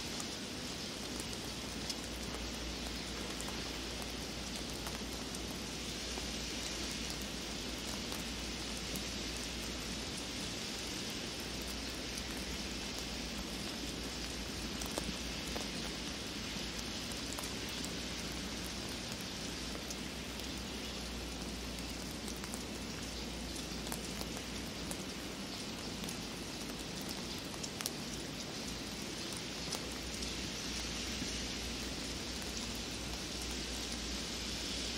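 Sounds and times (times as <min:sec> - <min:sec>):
snow falling through branches: 0:00.0 - 0:34.9.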